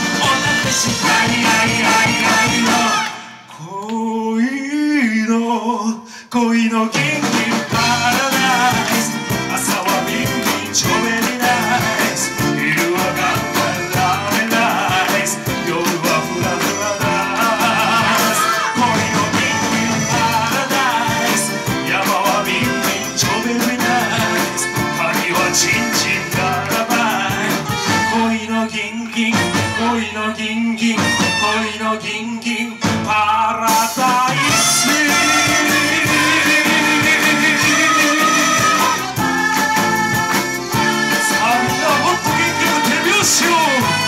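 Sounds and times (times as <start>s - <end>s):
live band playing lounge-pop: 0.0s - 3.4s, 7.0s - 28.5s, 29.3s - 30.1s, 30.9s - 31.6s, 32.8s - 44.0s
man singing: 0.0s - 44.0s.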